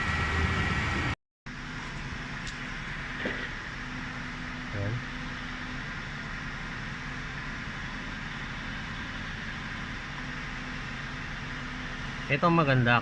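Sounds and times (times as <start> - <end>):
engine idling with misfire: 0.0 - 13.0.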